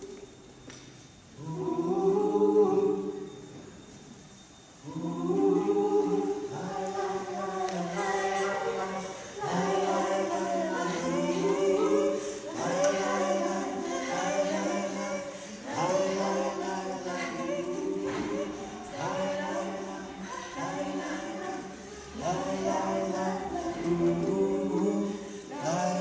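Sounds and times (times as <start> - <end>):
voices singing a cappella: 1.3 - 3.8, 4.7 - 26.0.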